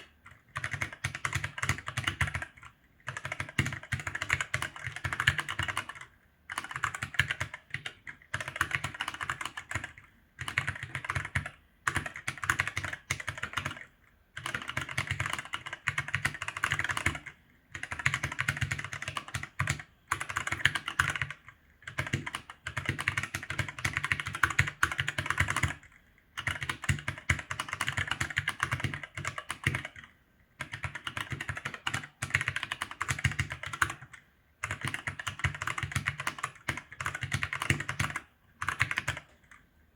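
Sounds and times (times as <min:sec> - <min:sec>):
mechanical keyboard typing: 0:00.0 - 0:39.6.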